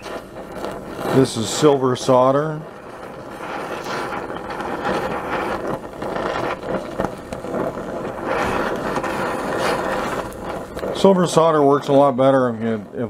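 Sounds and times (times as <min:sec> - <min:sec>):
faint crackles: 0:00.0 - 0:13.0
gas torch flame hissing: 0:00.0 - 0:13.0.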